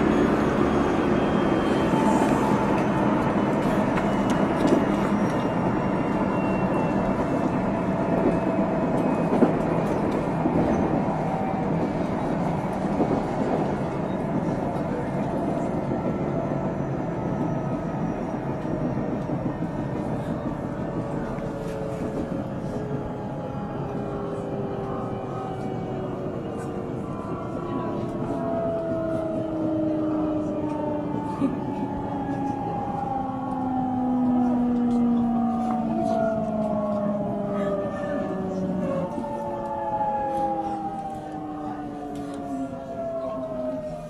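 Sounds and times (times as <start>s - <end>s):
rumble of wheels on rail: 0.0s - 44.0s.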